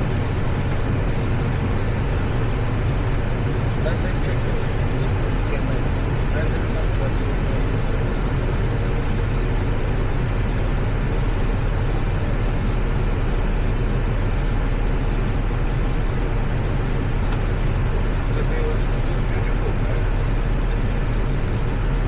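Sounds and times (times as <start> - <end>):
airflow and engine noise: 0.0 - 22.0
low hum: 0.0 - 22.0.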